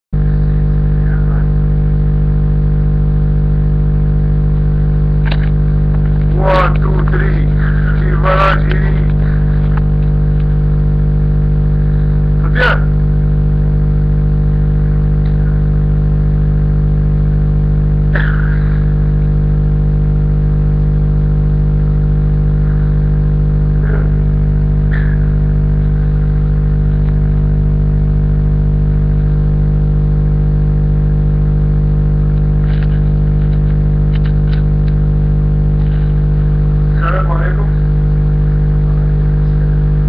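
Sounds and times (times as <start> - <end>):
electrical hum with buzzing: 0.2 - 40.0.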